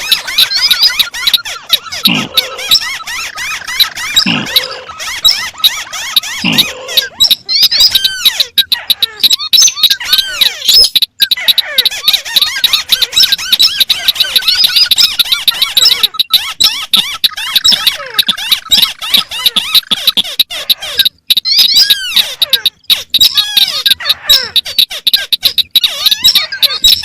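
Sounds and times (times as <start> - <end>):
recorded crake calls: 0.0 - 27.0.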